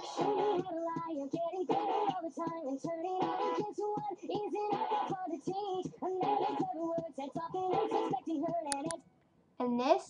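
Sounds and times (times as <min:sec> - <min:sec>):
backing music: 0:00.0 - 0:09.0.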